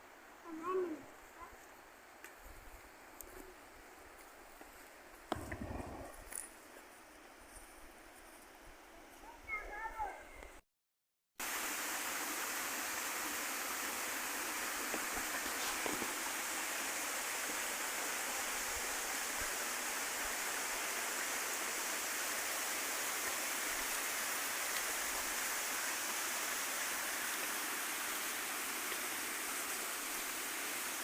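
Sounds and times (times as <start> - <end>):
running water rushing: 0.0 - 6.5, 11.4 - 31.0.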